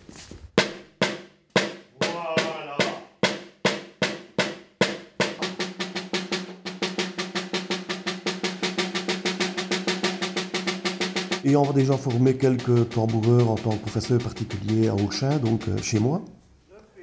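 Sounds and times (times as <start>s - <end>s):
drums beaten with wooden sticks: 0.6s - 16.3s.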